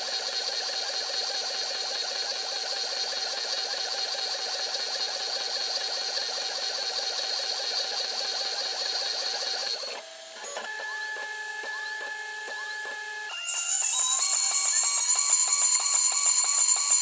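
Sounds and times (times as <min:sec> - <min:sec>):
milling machine motors whining: 0:00.2 - 0:16.9.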